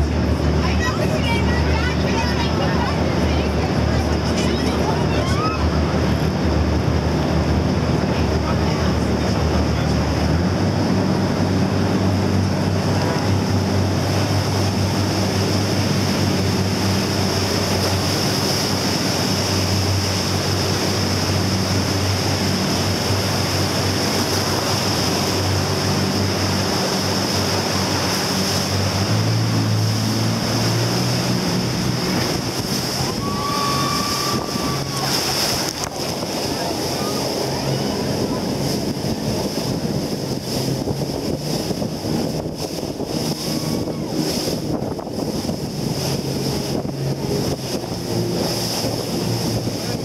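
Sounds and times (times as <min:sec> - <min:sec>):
boat engine hum: 0:00.0 - 0:50.0
rushing churning water: 0:00.0 - 0:50.0.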